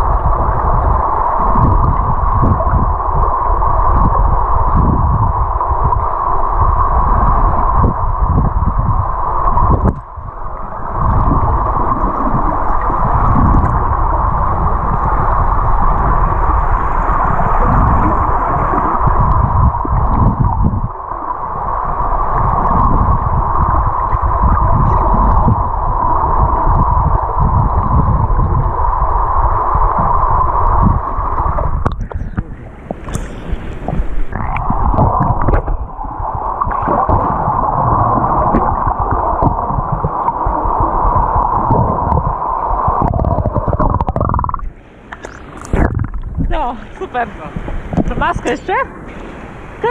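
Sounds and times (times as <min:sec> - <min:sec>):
underwater pool hiss: 0:00.0 - 0:48.0, 0:48.9 - 0:49.9
low underwater rumble: 0:00.0 - 0:49.9.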